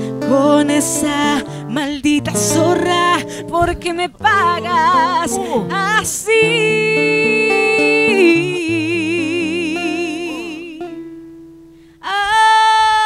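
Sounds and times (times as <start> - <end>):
plucked guitar: 0.0 - 13.0
woman singing with vibrato: 0.0 - 13.0.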